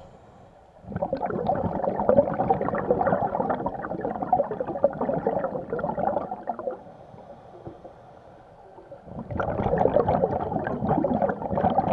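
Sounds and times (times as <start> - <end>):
underwater regulator bubbles gurgling: 0.8 - 7.9, 8.6 - 11.9.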